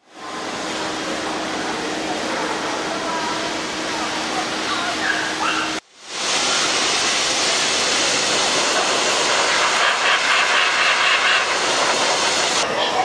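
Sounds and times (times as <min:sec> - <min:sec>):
pet dryer blasting air: 0:00.0 - 0:13.0.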